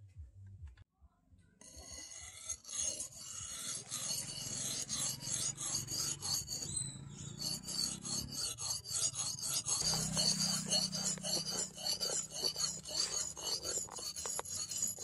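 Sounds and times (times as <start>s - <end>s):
steel scraping on whetstone: 1.6s - 15.0s.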